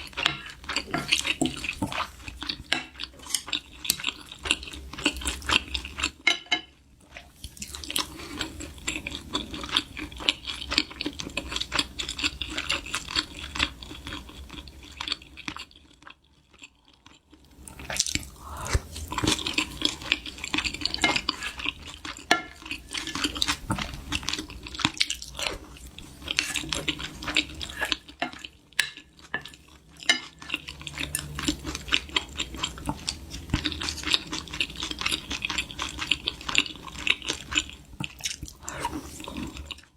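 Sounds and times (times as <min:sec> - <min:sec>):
chewing: 0:00.0 - 0:06.2, 0:07.0 - 0:39.9.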